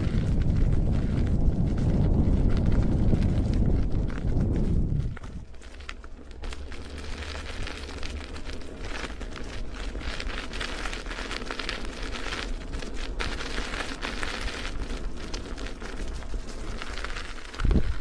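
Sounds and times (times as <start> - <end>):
steady low rumble: 0.0 - 18.0
wheels crunching over gravel: 0.0 - 18.0.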